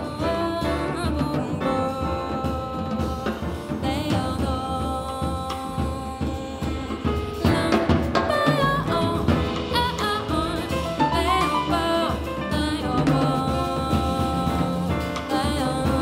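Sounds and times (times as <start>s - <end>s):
jazz band playing: 0.0s - 16.0s
woman singing jazz: 0.0s - 16.0s.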